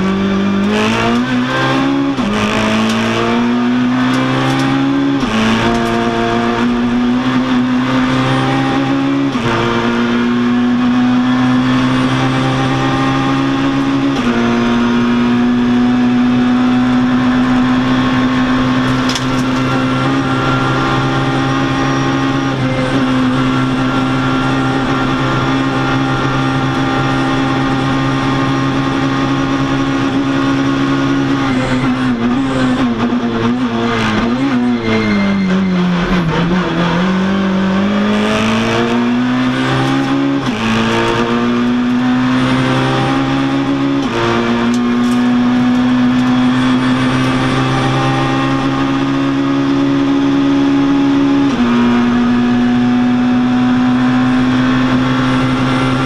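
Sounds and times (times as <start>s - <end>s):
rally car engine at high revs: 0.0s - 56.0s.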